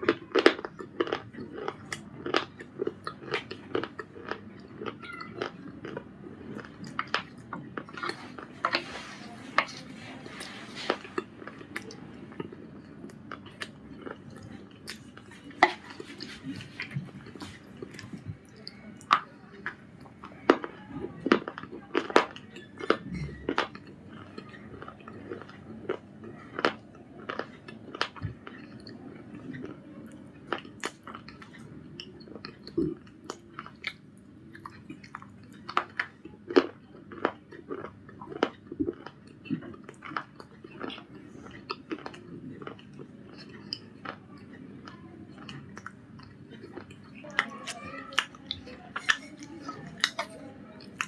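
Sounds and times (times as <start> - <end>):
biscuit crunching: 0.0 - 51.0
quiet chewing: 0.0 - 51.0.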